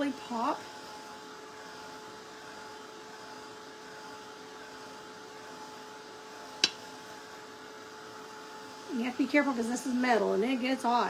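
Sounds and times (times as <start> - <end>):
hot-air blower whining: 0.0 - 11.0.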